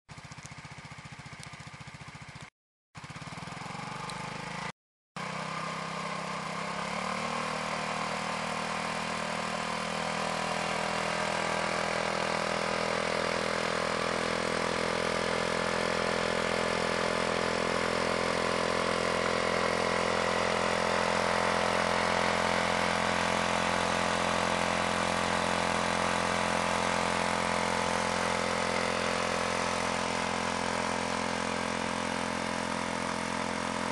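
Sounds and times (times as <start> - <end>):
scooter engine idling: 0.1 - 33.9.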